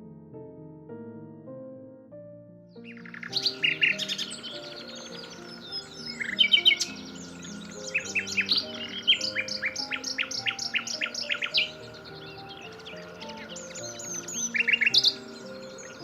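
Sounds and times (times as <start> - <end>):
nightingale singing: 2.8 - 16.0.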